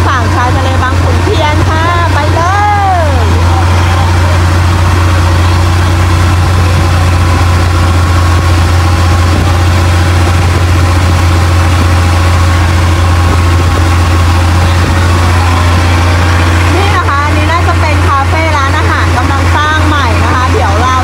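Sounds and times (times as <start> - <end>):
boat engine droning: 0.0 - 21.0
water rushing along hull: 0.0 - 21.0.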